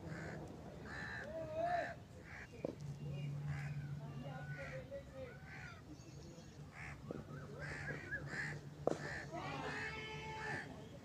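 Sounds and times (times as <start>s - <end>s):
outdoor calls and voices: 0.0s - 11.0s.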